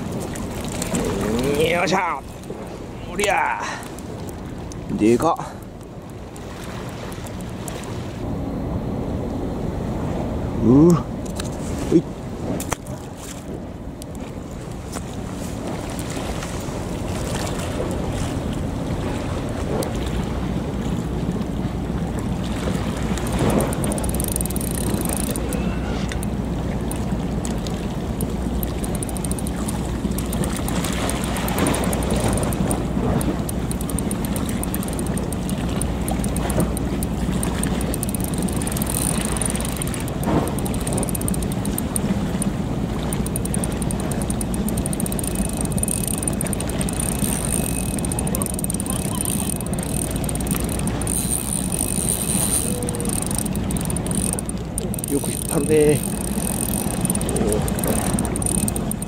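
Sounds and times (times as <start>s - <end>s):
constant hum: 0.0s - 59.0s
water noise: 0.0s - 59.0s
wind: 0.0s - 59.0s.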